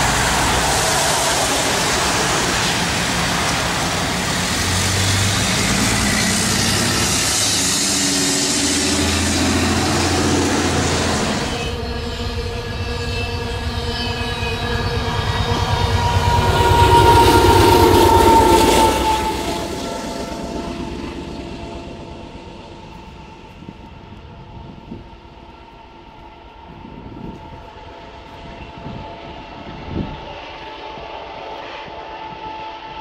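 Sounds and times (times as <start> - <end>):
freight train wheels rumbling: 0.0 - 33.0
ringing whine: 0.0 - 33.0.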